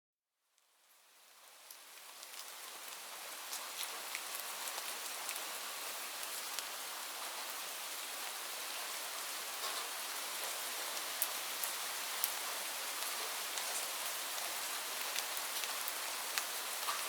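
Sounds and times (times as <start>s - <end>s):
light rain hiss: 0.4s - 17.0s.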